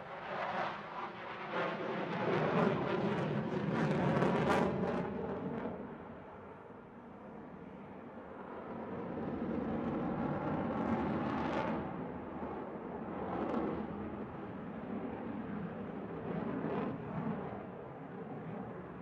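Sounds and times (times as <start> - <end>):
jet engine roar: 0.0 - 6.2, 8.3 - 19.0.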